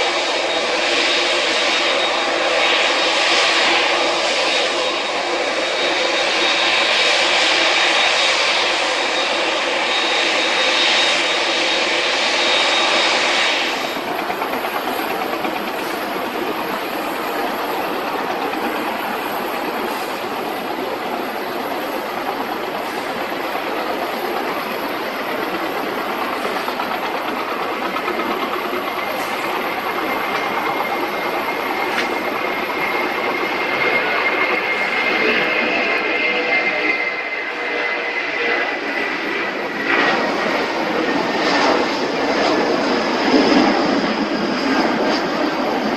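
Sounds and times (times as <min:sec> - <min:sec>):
high steady jet whine: 0:00.0 - 0:45.9
jet engine rushing: 0:00.0 - 0:45.9.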